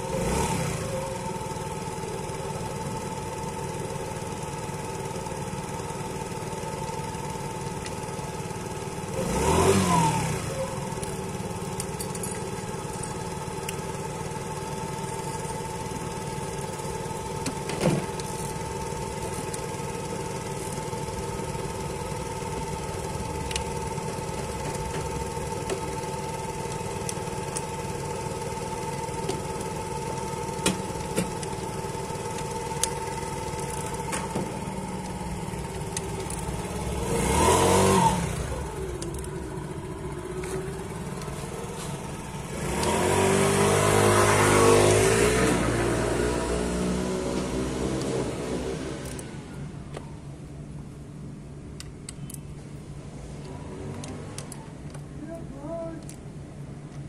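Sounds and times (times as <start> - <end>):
scooter engine idling and revving: 0.0 - 57.0.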